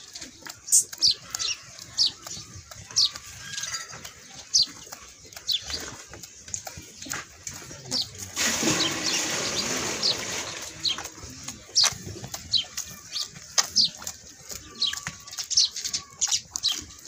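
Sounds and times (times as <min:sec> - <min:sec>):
calf suckling: 0:00.0 - 0:17.0
small birds chirping: 0:00.0 - 0:17.0.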